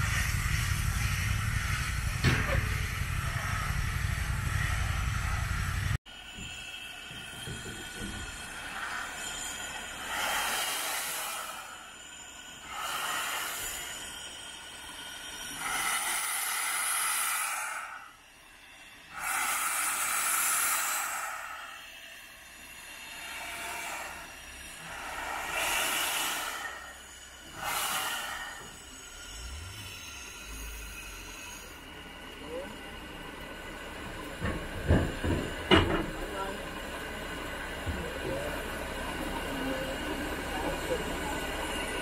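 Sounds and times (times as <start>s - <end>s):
steam locomotive hissing steam: 0.0s - 42.0s.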